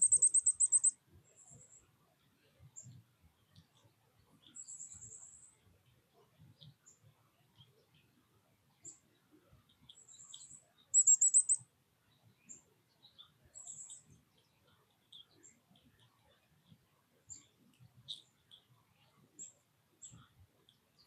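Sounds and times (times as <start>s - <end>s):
small songbirds chirping: 0.0s - 21.0s.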